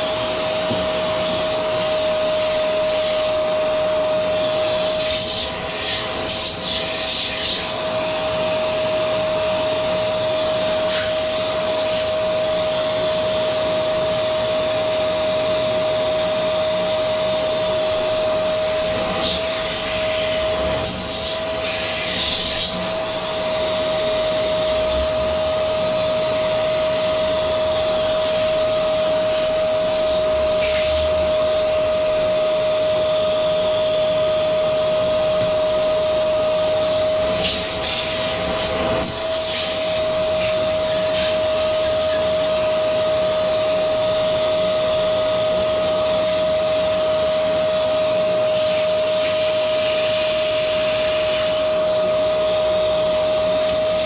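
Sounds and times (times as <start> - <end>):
vacuum cleaner motor whining: 0.0 - 54.0.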